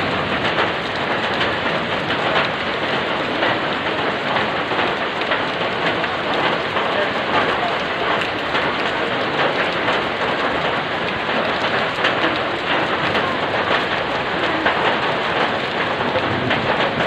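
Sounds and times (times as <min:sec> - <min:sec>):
heavy rain on wet pavement: 0:00.0 - 0:17.0.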